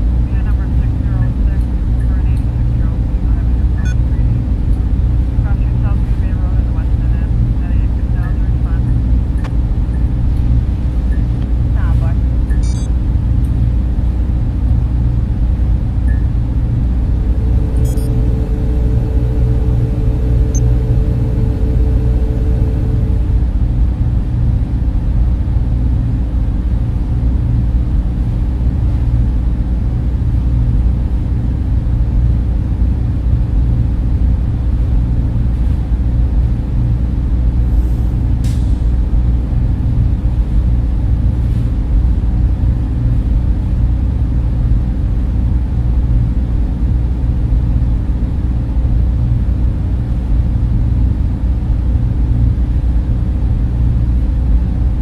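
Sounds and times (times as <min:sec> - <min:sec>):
faint higher hum: 0:00.0 - 0:55.0
server machines and cooling fans drone: 0:00.0 - 0:55.0.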